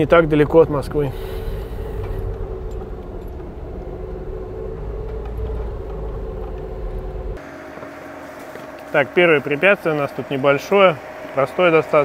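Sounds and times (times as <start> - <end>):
car engine drone: 0.0 - 12.0
road rumble: 0.0 - 12.0
steady hum: 0.0 - 12.0.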